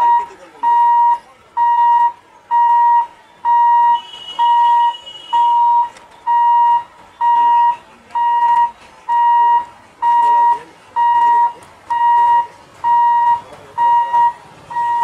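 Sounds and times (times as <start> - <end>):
level crossing warning beeps: 0.0 - 15.0.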